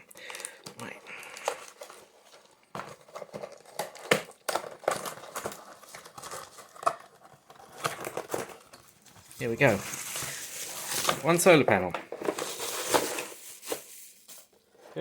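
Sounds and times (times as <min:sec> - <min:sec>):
packaging rustling and crinkling: 0:00.1 - 0:15.0.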